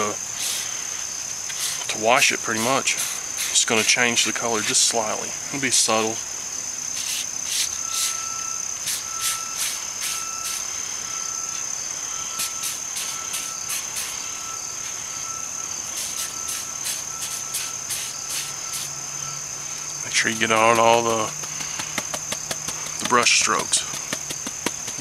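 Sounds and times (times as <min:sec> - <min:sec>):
cricket trill: 0:00.0 - 0:25.0
faint insect chirp: 0:00.0 - 0:25.0
raspy insect pulses: 0:00.0 - 0:25.0.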